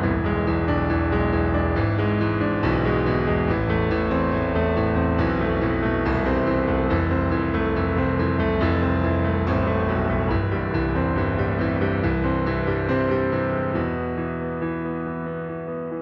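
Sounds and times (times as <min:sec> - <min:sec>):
piano repeated notes: 0:00.0 - 0:16.0.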